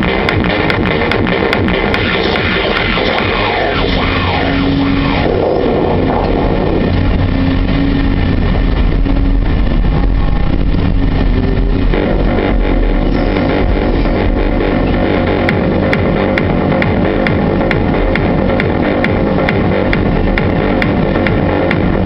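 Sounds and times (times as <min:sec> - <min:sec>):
music with held notes: 0:00.0 - 0:22.0
steady low hum: 0:00.0 - 0:22.0.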